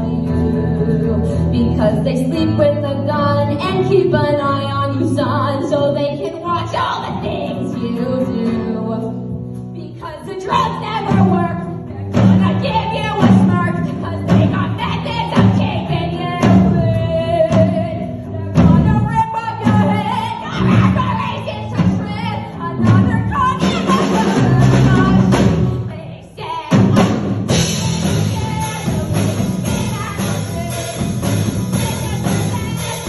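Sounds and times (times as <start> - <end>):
bass guitar: 0.0 - 26.1, 26.7 - 33.0
drums: 0.0 - 33.0
female singer: 0.0 - 33.0.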